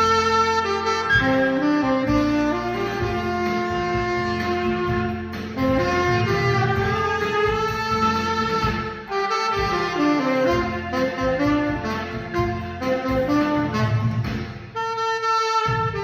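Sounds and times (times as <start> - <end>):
steady musical accompaniment: 0.0 - 16.0
tenor saxophone slow melody: 0.0 - 16.0.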